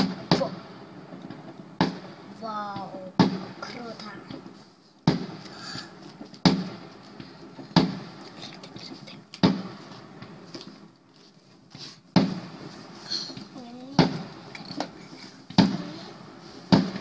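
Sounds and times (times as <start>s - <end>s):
fireworks booming with echo: 0.0s - 17.0s.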